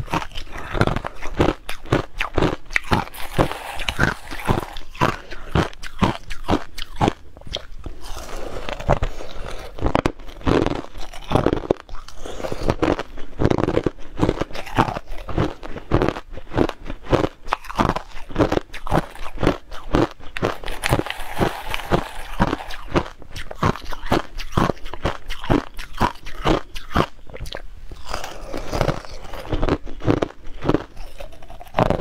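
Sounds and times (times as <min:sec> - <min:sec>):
ice crunching while chewed: 0:00.0 - 0:32.0.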